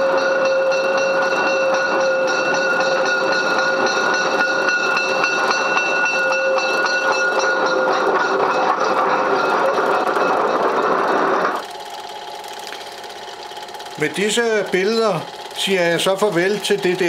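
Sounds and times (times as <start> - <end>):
high whining tones: 0.0 - 17.0
train rolling clatter: 0.0 - 17.0.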